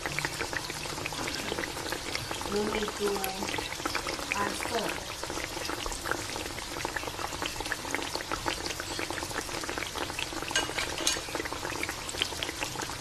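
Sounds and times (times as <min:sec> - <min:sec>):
sauce simmering with small pops: 0:00.0 - 0:13.0.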